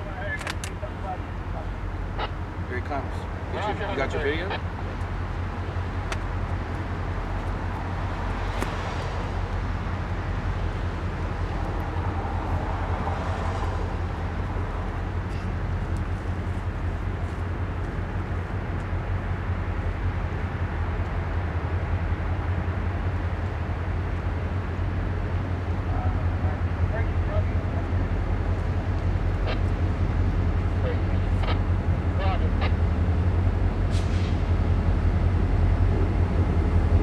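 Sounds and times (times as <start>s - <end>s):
diesel locomotive engine drone: 0.0s - 37.0s.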